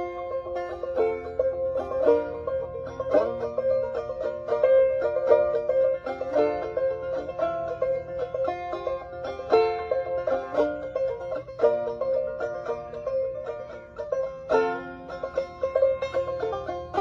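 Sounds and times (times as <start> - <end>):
banjo picking: 0.0 - 17.0.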